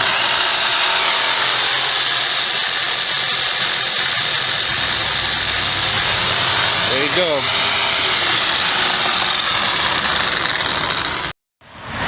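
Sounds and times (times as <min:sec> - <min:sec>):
reciprocating saw running: 0:00.0 - 0:11.4.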